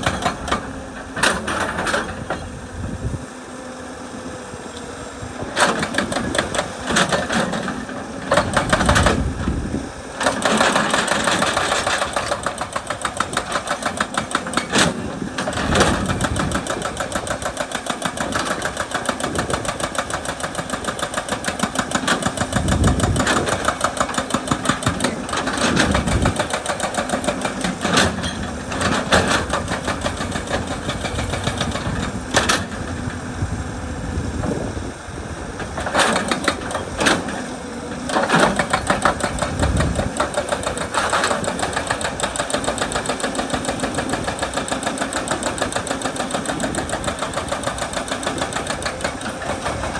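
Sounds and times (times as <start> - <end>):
hydraulic breaker hammering rock: 0.0 - 2.6, 5.4 - 33.5, 35.6 - 49.9
diesel engine running: 0.0 - 49.9.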